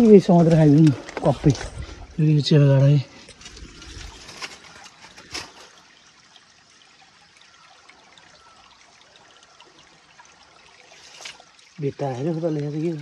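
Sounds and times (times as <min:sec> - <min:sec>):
stream trickling over stones: 0:00.0 - 0:13.0.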